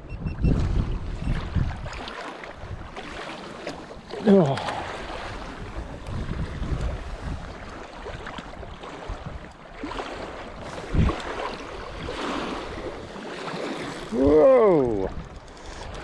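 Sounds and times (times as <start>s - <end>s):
wind buffeting microphone: 0.0s - 3.2s, 4.6s - 16.0s
water lapping: 0.5s - 16.0s.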